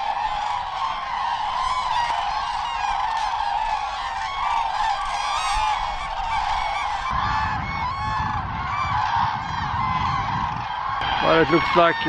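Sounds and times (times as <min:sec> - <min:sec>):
cranes trumpeting calls: 0:00.0 - 0:12.0.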